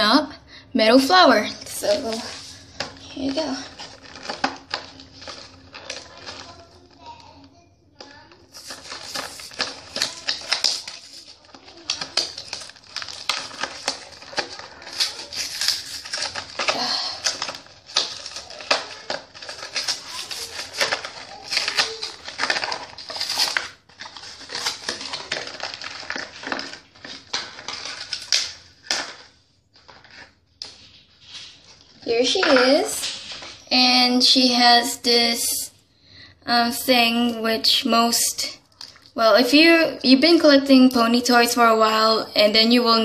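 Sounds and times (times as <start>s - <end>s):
plastic packaging crinkling: 1.4s - 34.4s, 37.7s - 39.7s.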